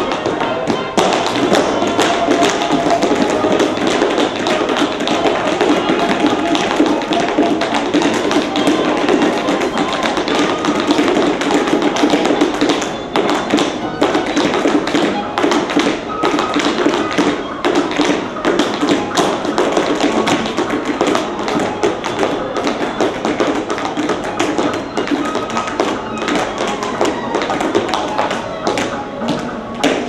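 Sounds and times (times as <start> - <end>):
background music: 0.0 - 30.0
tap shoes on wooden boards: 0.0 - 30.0.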